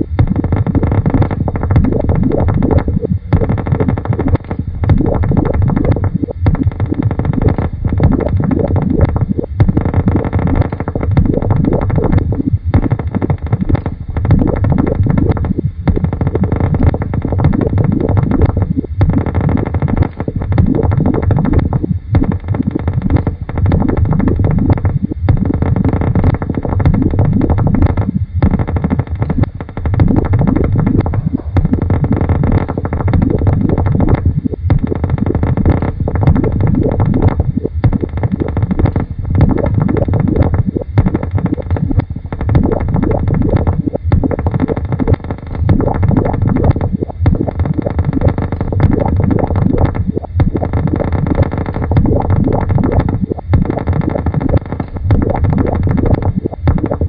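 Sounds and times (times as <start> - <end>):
low rumbling electronic noise: 0.0 - 57.0.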